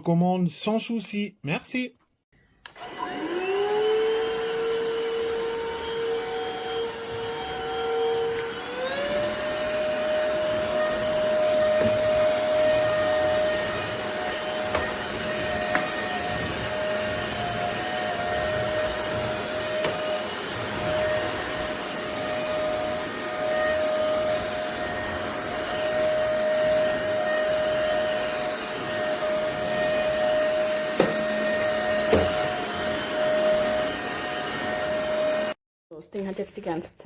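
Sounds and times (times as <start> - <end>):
vacuum motor whine: 2.7 - 35.6.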